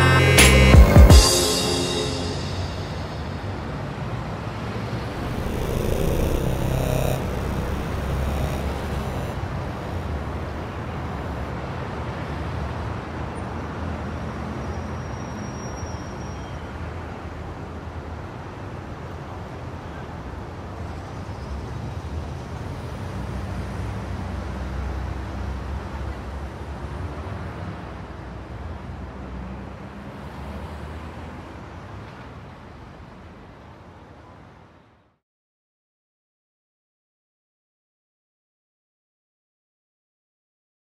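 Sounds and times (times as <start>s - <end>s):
road traffic rumble: 0.0s - 14.7s, 16.6s - 34.8s.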